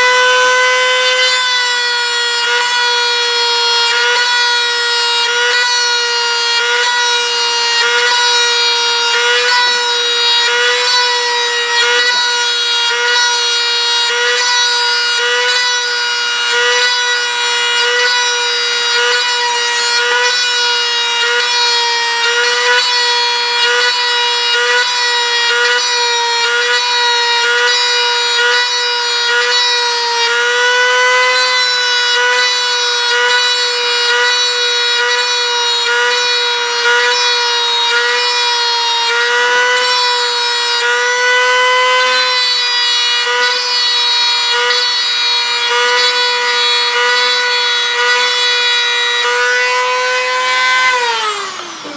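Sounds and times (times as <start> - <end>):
rotary tool high whine: 0.0 - 51.9.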